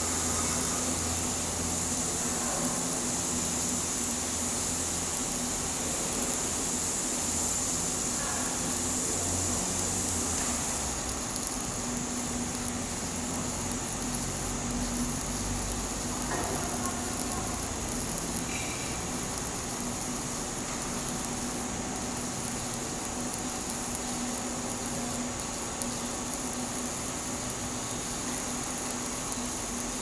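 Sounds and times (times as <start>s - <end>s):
welding arc crackling hiss: 0.0s - 30.0s.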